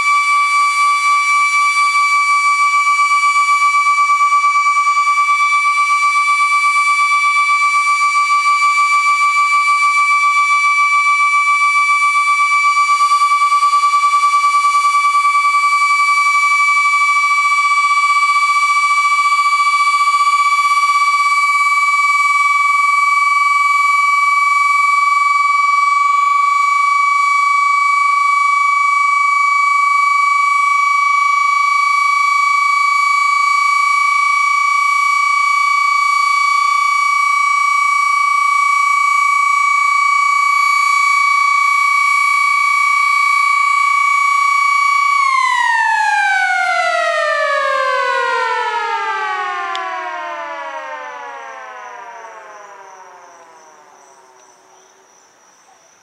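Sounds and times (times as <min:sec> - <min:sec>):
fire sirens steady tone: 0:00.0 - 0:56.0.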